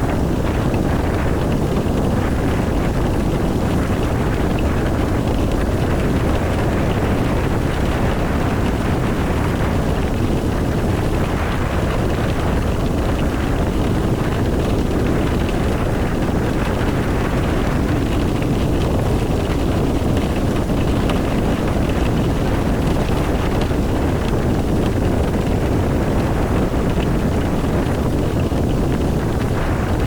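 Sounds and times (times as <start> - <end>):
road and tyre rumble: 0.0 - 30.0.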